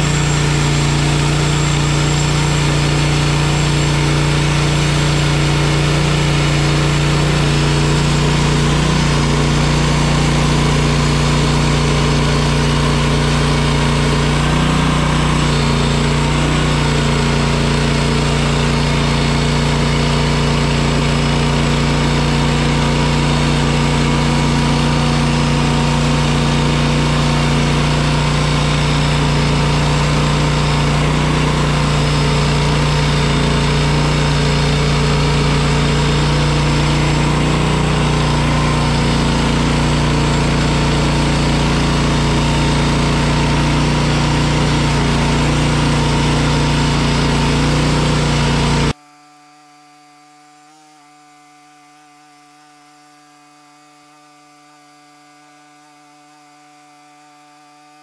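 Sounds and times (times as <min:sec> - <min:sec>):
band sawmill cutting log: 0:00.0 - 0:49.0.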